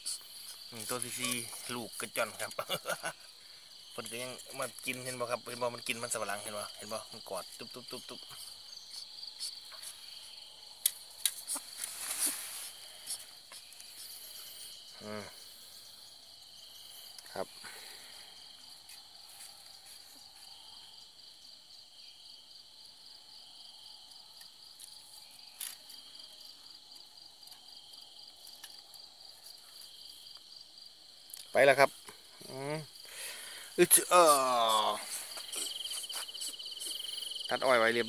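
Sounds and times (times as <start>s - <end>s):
night insects chirring: 0.0s - 38.0s.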